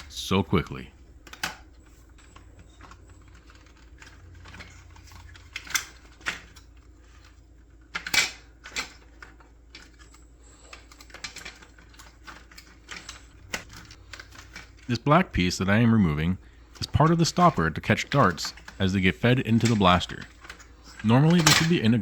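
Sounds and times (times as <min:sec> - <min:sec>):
hard plastic parts clicking: 0:01.2 - 0:22.0.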